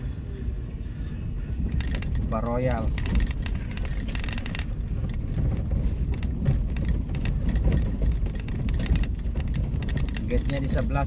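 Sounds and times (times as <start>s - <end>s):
rattling in vehicle: 0.0s - 11.0s
vehicle engine and road rumble: 0.0s - 11.0s.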